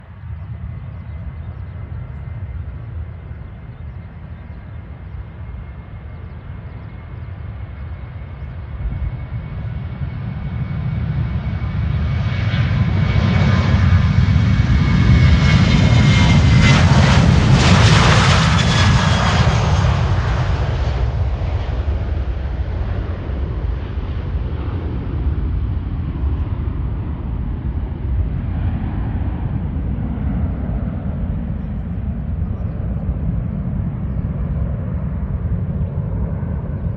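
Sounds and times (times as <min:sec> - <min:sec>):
airliner engines passing: 0:00.0 - 0:36.9.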